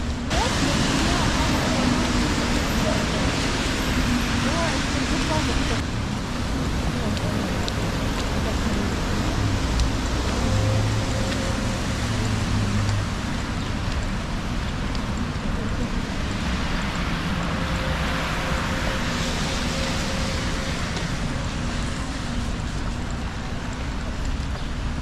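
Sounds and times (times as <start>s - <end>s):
tyres hissing on wet road: 0.0s - 25.0s
vehicle passing on wet road: 0.0s - 25.0s.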